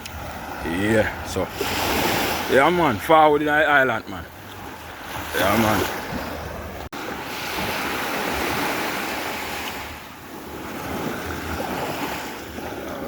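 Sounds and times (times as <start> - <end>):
sea surf breaking on beach: 0.0 - 13.0.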